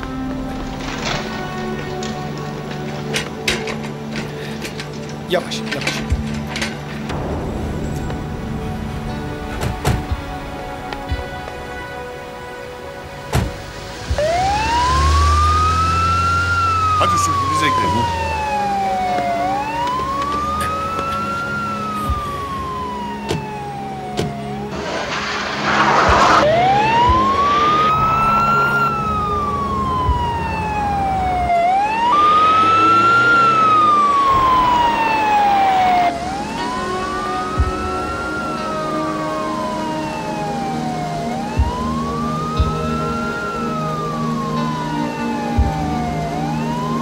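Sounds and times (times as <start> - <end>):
ambulance siren wailing: 0.0 - 7.6, 9.1 - 47.0
rushing noise: 6.8 - 47.0.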